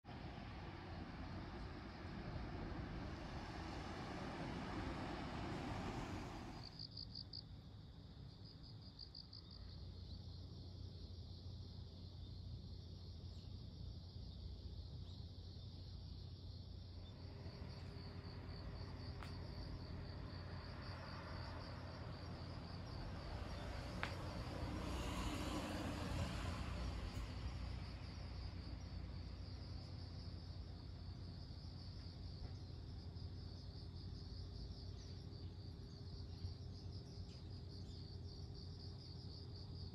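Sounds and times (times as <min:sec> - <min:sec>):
low steady rumble: 0:00.0 - 0:07.2, 0:14.4 - 0:39.9
crickets chirping: 0:00.1 - 0:39.9.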